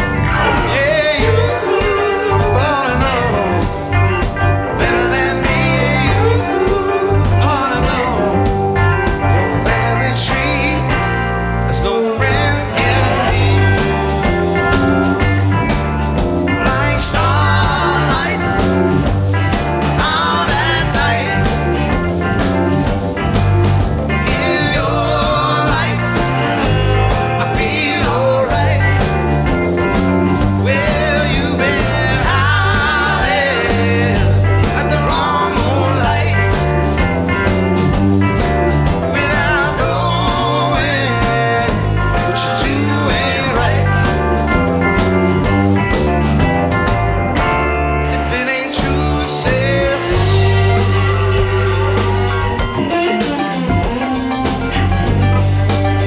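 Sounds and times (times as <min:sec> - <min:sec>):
person singing: 0:00.0 - 0:22.9, 0:24.2 - 0:45.4, 0:47.8 - 0:56.0
bass: 0:00.0 - 0:56.0
drums: 0:00.0 - 0:56.0
guitar: 0:00.0 - 0:56.0
rock band playing: 0:00.0 - 0:56.0.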